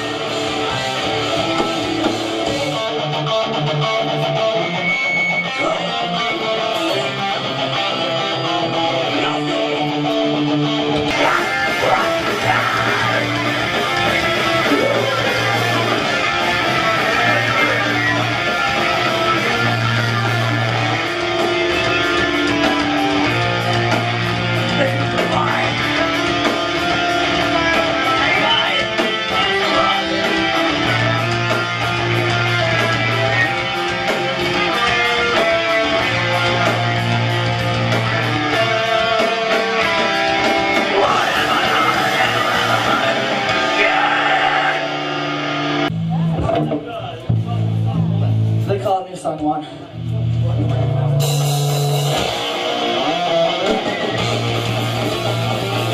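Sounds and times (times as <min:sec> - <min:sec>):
metalcore band playing: 0:00.0 - 0:55.9.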